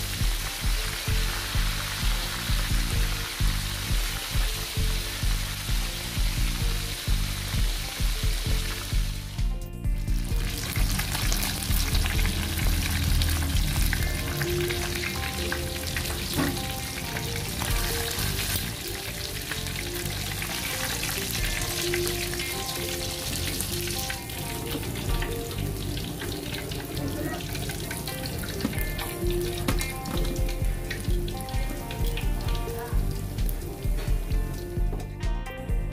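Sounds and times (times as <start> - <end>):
fish sizzling in hot oil: 0.0 - 9.4, 10.2 - 34.8.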